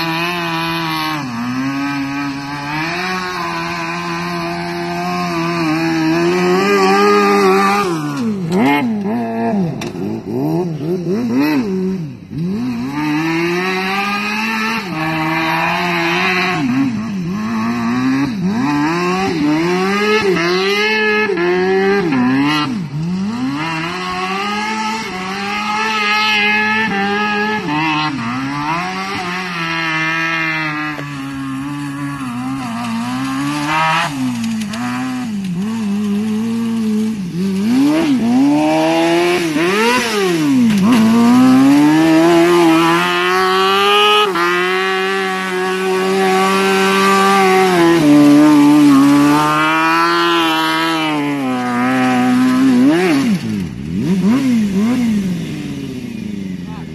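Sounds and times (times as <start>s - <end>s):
lawn mower engine revving: 0.0s - 56.9s.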